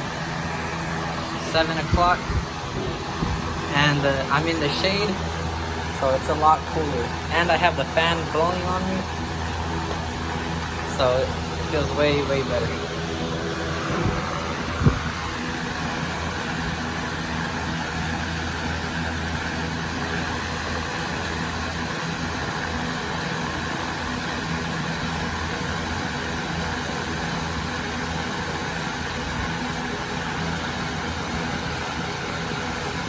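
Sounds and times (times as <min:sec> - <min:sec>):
electric fan motor hum: 0:00.0 - 0:33.0.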